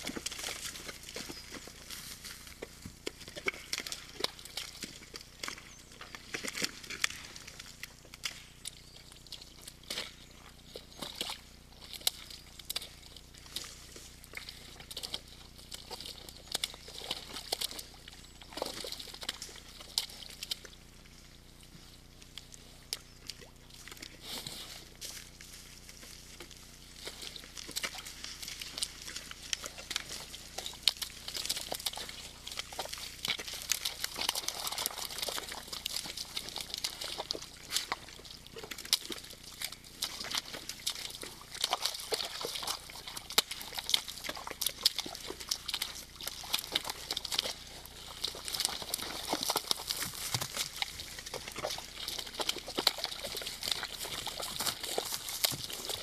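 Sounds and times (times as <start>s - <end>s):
hooves splashing in mud: 0.0s - 56.0s.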